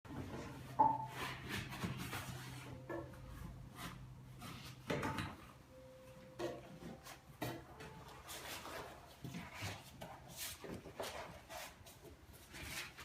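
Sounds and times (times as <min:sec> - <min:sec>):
tools knocking and scraping: 0:00.1 - 0:05.6, 0:06.3 - 0:11.4.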